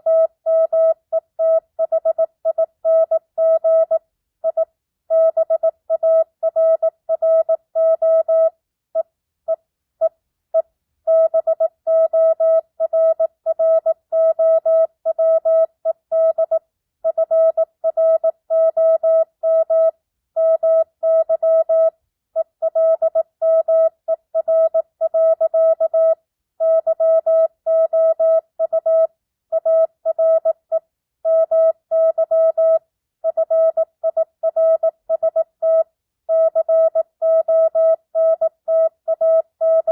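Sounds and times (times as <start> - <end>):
morse code beeps: 0.0 - 8.5, 11.1 - 30.6, 31.3 - 39.9.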